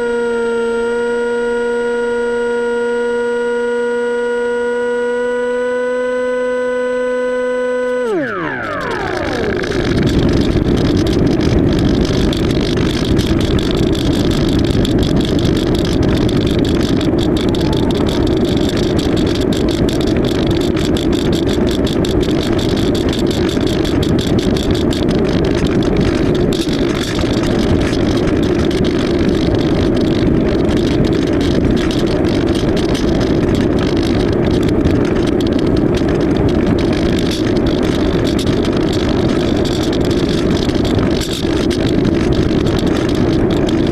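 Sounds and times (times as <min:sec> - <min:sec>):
model plane motor and propeller droning: 0:00.0 - 0:43.9
wind noise: 0:06.3 - 0:43.9.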